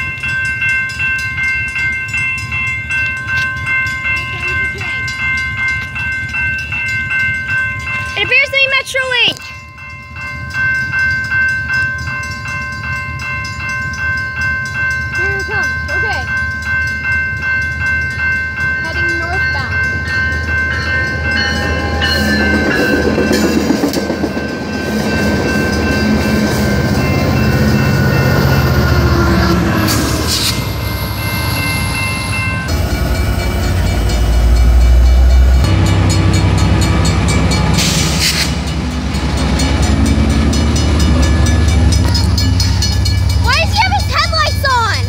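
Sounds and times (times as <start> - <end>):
railcars rolling: 0.0 - 45.0
train engine hum: 0.0 - 45.0.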